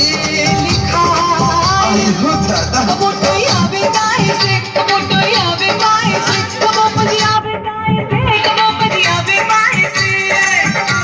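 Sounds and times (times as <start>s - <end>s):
instrumental backing with steady beat: 0.0s - 11.0s
person singing: 0.0s - 11.0s.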